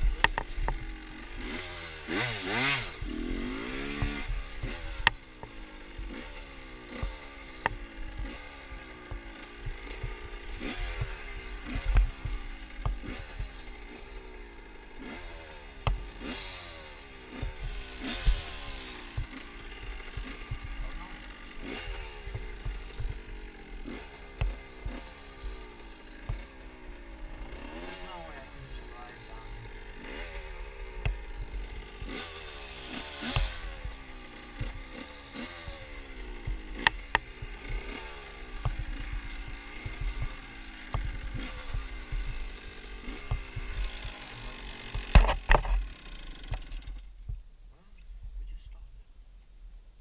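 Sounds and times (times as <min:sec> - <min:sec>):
motorcycle engine revving: 0:00.0 - 0:48.7.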